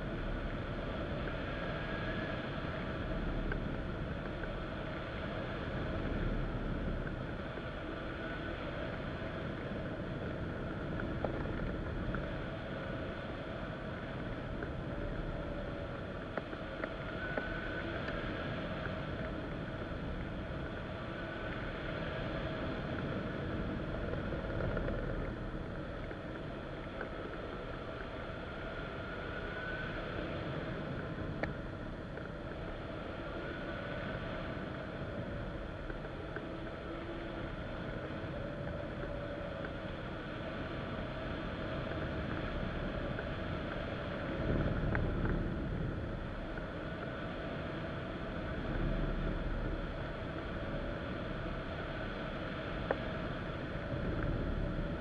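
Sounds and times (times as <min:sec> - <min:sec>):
rush of air over camera: 0:00.0 - 0:55.0.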